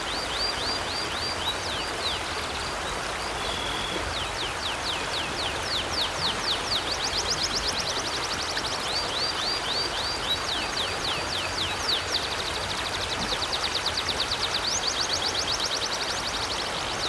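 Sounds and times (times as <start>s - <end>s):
river flowing: 0.0s - 17.0s.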